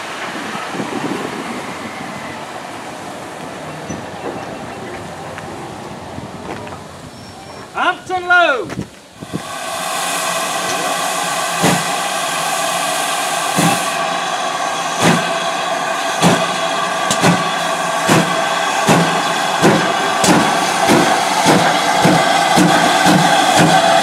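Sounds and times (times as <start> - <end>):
steady steam hiss: 0.0 - 24.0
steam locomotive exhaust beats: 0.0 - 24.0.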